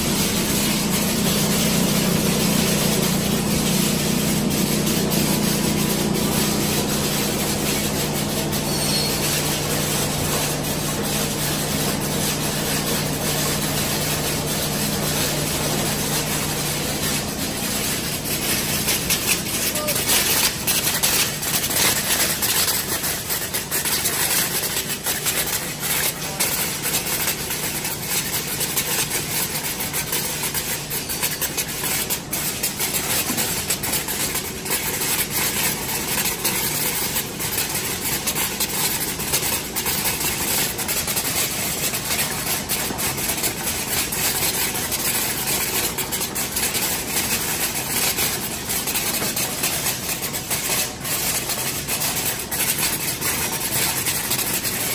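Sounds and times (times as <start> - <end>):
machine hum and hiss: 0.0 - 54.9
rapid mechanical clicks: 9.2 - 54.9.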